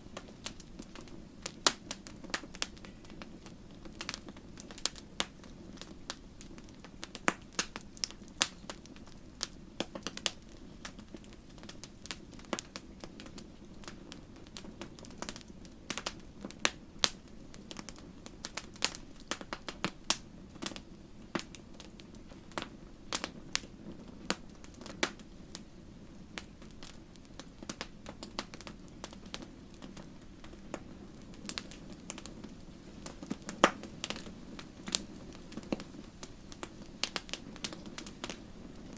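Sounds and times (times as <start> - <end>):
campfire crackling: 0.0 - 38.9
wood fire popping and snapping: 0.0 - 38.9.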